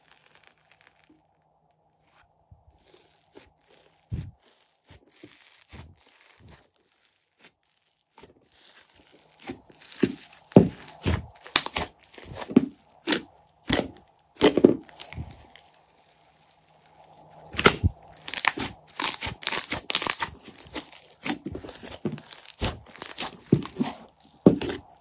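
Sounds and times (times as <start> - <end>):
slime with foam beads crackling: 0.0 - 25.0.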